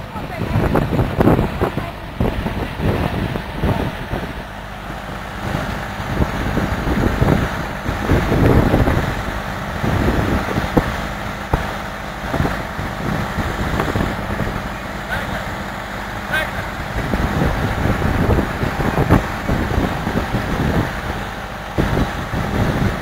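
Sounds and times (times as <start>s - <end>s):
engine running: 0.0s - 23.0s
threshing machine drone: 0.0s - 23.0s.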